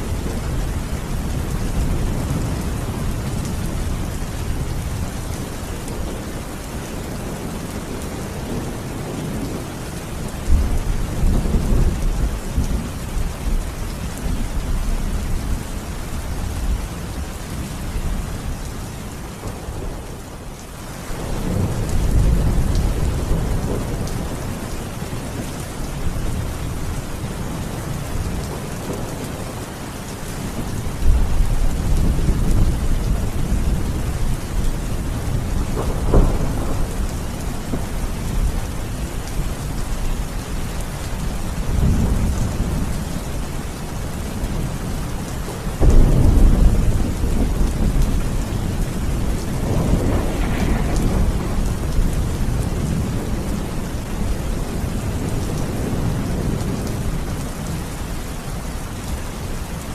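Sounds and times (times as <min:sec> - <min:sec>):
low rolling thunder: 0:00.0 - 0:15.4, 0:21.1 - 0:29.7, 0:30.4 - 0:43.4, 0:44.0 - 0:57.9
heavy rain: 0:00.0 - 0:59.9.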